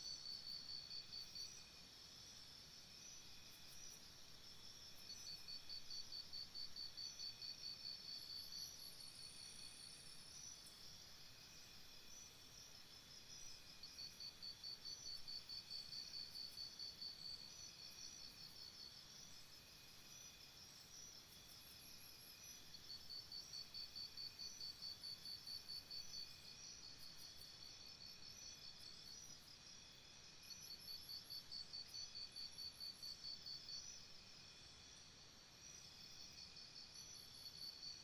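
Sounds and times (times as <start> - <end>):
chorus of crickets: 0.0 - 38.0.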